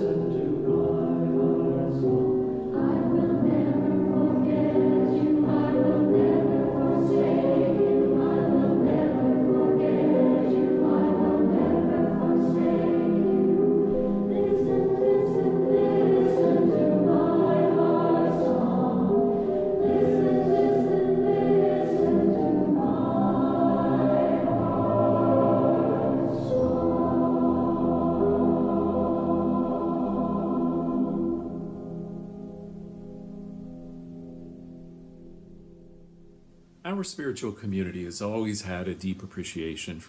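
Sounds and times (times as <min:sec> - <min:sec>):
choir chanting sustained notes: 0:00.0 - 0:35.1.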